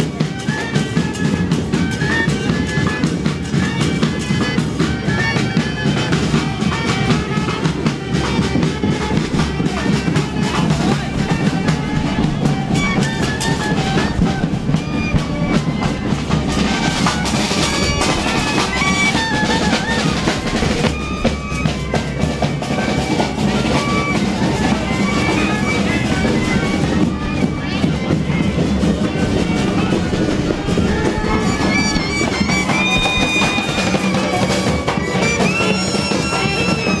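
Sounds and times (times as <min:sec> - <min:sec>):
drums beating festive rhythm: 0:00.0 - 0:37.0
reedy wind instrument melody: 0:00.0 - 0:37.0.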